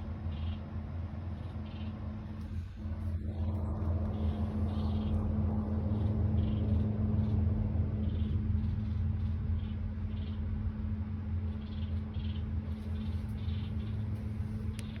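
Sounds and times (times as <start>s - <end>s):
steady low hum: 0.0s - 15.0s
small birds chirping: 0.1s - 15.0s.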